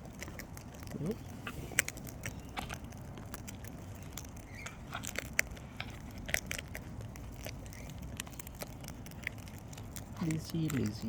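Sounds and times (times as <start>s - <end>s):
cockatoo crunching food: 0.0s - 11.0s.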